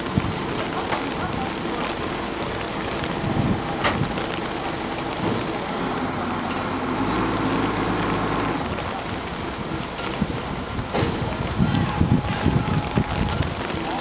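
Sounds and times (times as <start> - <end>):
diesel engine running: 0.0 - 14.0
steady rushing noise: 0.0 - 14.0.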